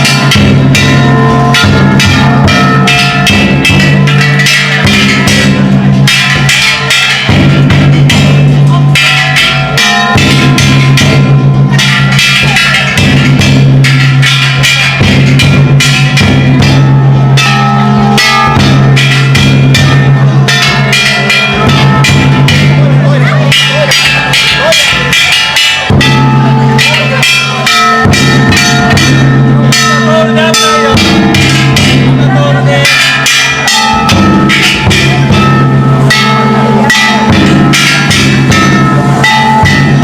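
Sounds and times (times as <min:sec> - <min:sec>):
gongs clanging: 0:00.0 - 0:40.0
taiko drum: 0:00.0 - 0:40.0.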